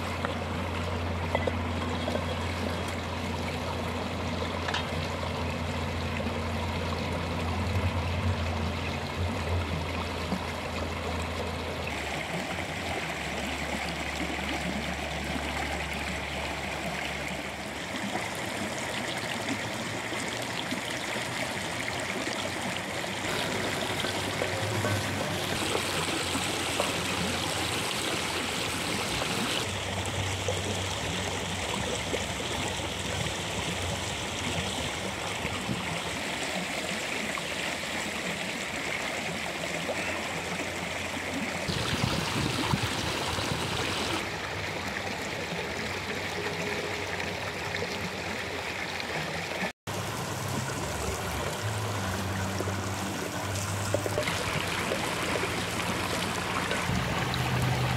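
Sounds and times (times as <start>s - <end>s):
rushing river water: 0.0s - 57.9s.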